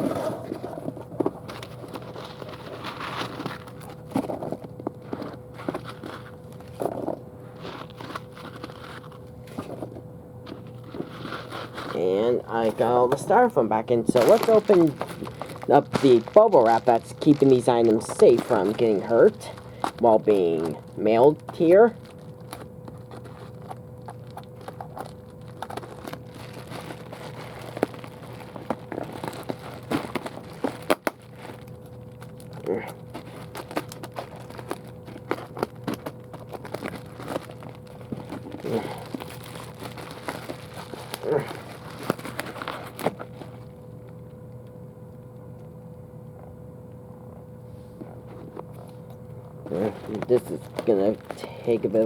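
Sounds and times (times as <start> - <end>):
bubble wrap crinkling and crackling: 0.0 - 45.7, 48.0 - 52.0
background hum: 0.0 - 52.0
faint held whine: 0.0 - 52.0.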